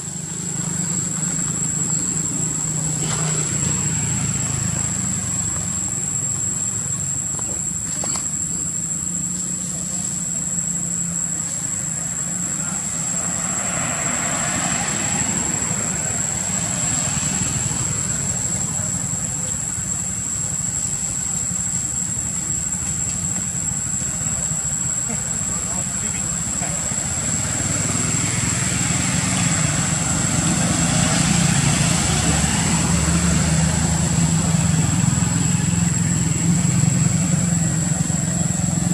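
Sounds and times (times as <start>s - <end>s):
low engine-like drone: 0.0s - 38.9s
rush of noise: 0.0s - 38.9s.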